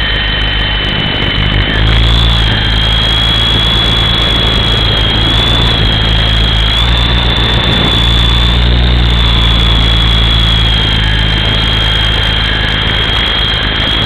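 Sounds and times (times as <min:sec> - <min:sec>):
low rotor hum: 0:00.0 - 0:14.0
rc helicopter motor whine: 0:00.0 - 0:14.0.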